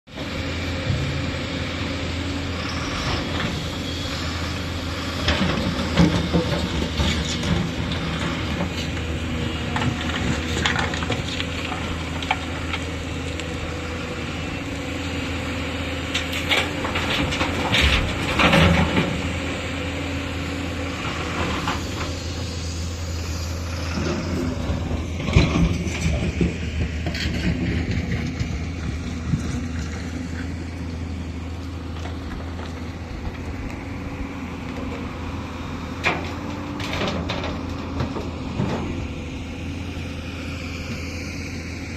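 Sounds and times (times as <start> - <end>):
diesel excavator engine running: 0.1 - 41.9.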